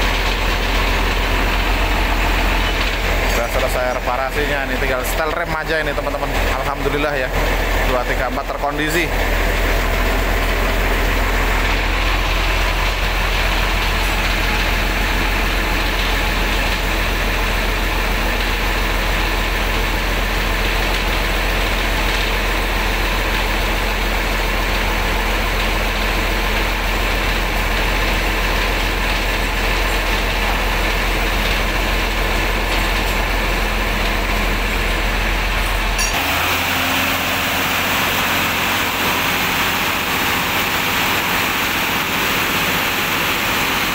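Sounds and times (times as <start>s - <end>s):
diesel bus engine idling: 0.0s - 43.9s.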